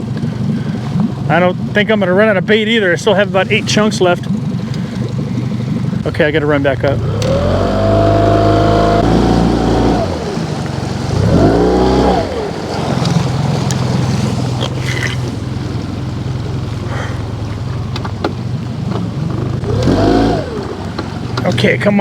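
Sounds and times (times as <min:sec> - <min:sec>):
boat motor revving: 0:00.0 - 0:22.0.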